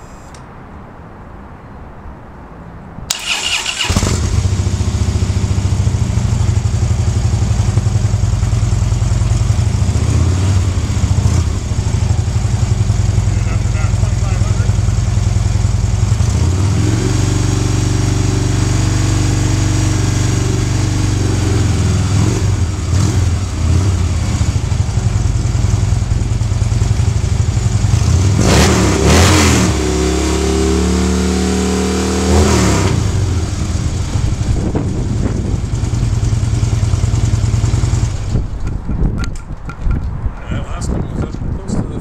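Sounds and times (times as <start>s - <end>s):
motorcycle engine idling and revving: 3.1s - 42.0s.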